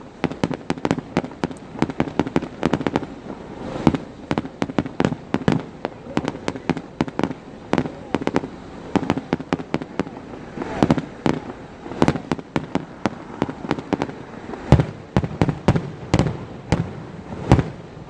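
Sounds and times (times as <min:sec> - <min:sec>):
firework rushing hiss: 0:00.0 - 0:18.0
fireworks bangs and crackles: 0:00.0 - 0:18.0.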